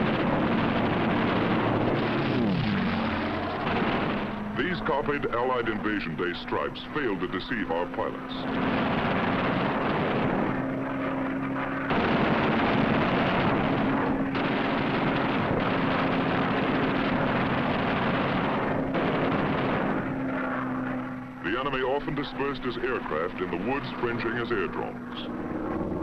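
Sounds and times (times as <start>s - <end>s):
fighter plane engine droning: 0.0s - 26.0s.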